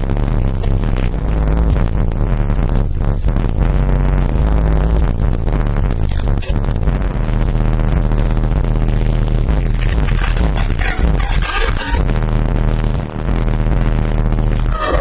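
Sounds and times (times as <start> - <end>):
bass-heavy music through subwoofer: 0.0 - 15.0.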